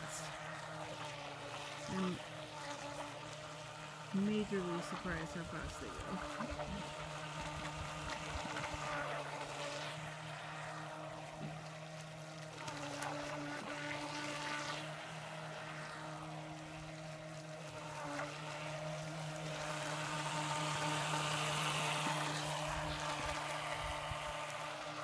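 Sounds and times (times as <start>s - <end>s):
model boat motor whine: 0.0s - 25.0s.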